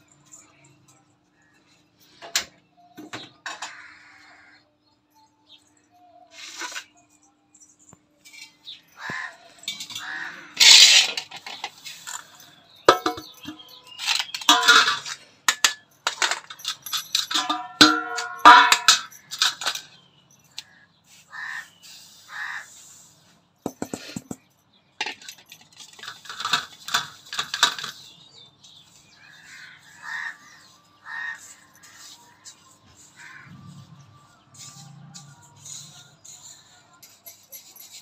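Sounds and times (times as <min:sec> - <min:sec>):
metal vessels clinking: 0:00.0 - 0:03.8, 0:08.2 - 0:20.9, 0:23.7 - 0:38.0.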